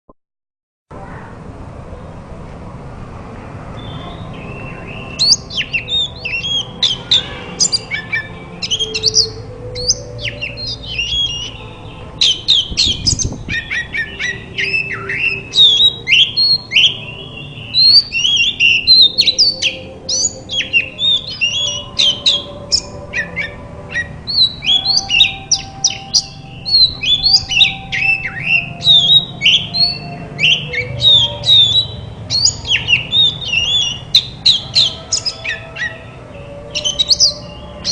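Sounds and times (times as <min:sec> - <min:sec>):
bird song with chirps and whistles: 0:03.7 - 0:37.9.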